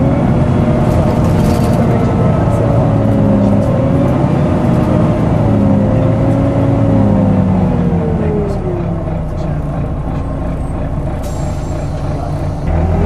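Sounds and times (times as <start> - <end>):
bus cooling fan whining: 0.0 - 12.8
bus engine and road noise: 0.0 - 13.0.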